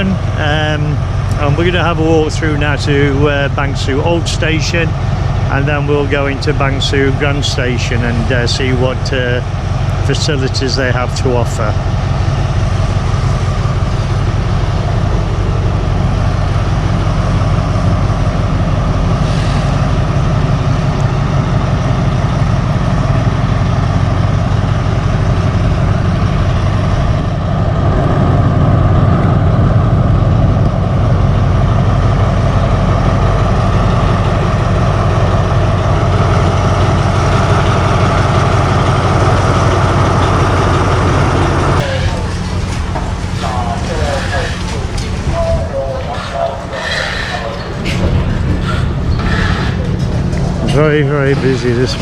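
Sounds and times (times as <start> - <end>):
street noise: 0.0 - 52.0
vehicle engine rumbling: 0.0 - 52.0.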